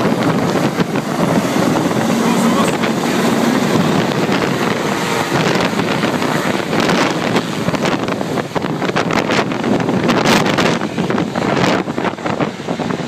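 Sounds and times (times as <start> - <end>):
helicopter rotor and engines: 0.0 - 13.0
wind buffeting microphone: 0.0 - 13.0.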